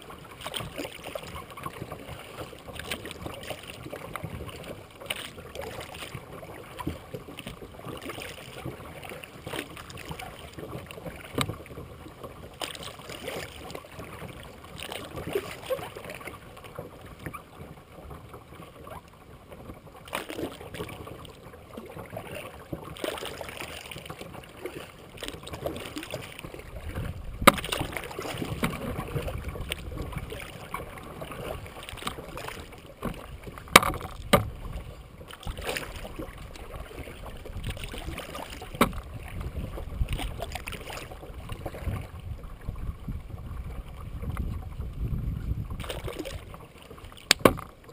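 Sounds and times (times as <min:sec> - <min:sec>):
kayak paddle splashing in water: 0:00.0 - 0:47.9.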